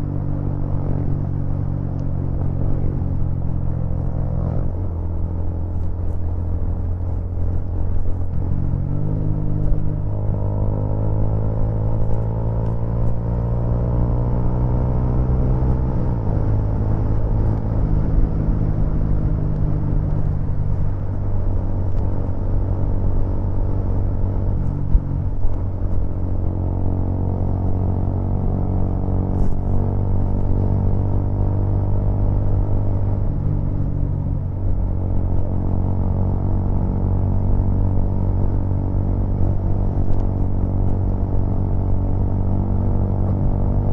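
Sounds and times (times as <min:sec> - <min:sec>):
vehicle engine accelerating: 0:00.0 - 0:43.9.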